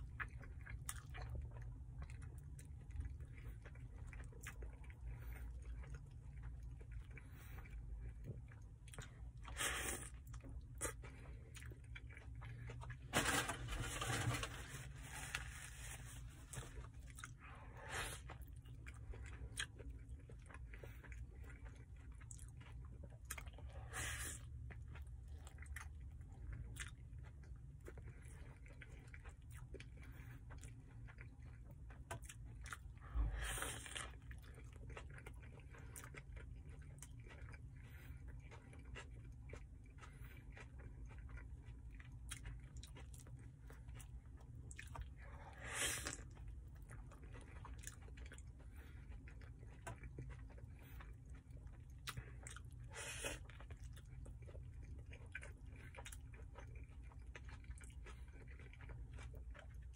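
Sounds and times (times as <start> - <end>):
wet chewing: 0.0 - 13.4, 15.0 - 59.9
low steady hum: 0.0 - 59.9.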